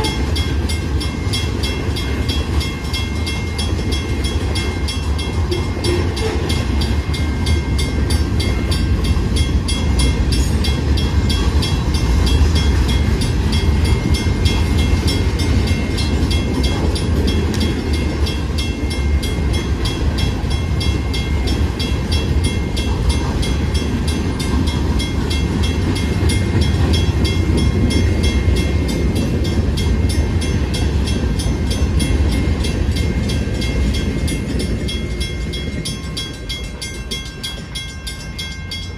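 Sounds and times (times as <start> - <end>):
crossing bell ringing: 0.0 - 38.9
train rumbling on rails: 0.0 - 38.9.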